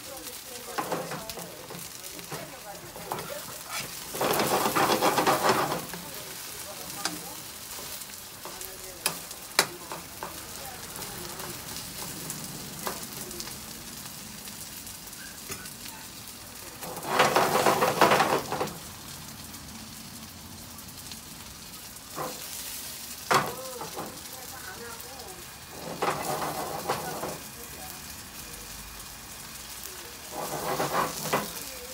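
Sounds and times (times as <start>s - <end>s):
pancake sizzling in oil: 0.0s - 31.9s.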